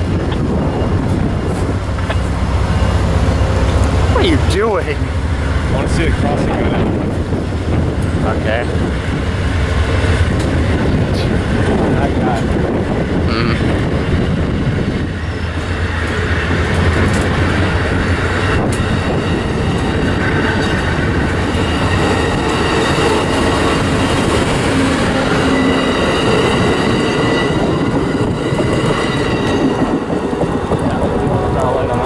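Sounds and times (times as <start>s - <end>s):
train wheels rushing on rails: 0.0s - 32.0s.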